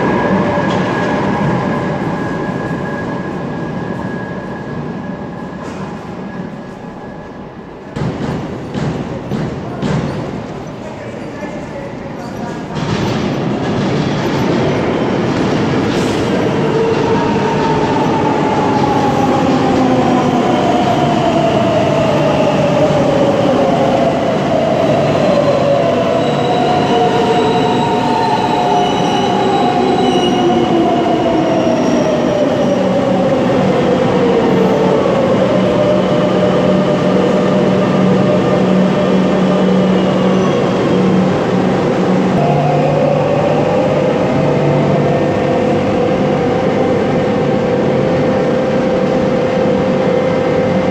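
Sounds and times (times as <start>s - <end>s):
train braking to a stop: 0.0s - 7.9s, 10.1s - 50.9s.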